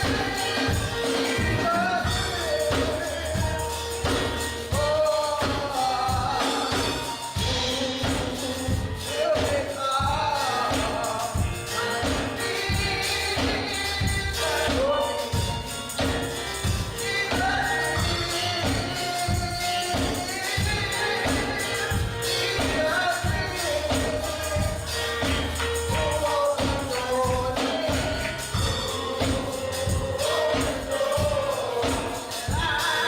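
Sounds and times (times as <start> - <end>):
choir singing gospel with band: 0.0 - 33.0.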